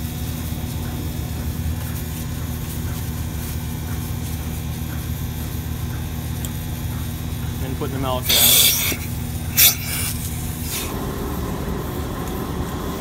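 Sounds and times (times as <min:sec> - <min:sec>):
pulsator soft regular beat: 0:00.0 - 0:11.0
milking machine vacuum hum: 0:00.0 - 0:13.0.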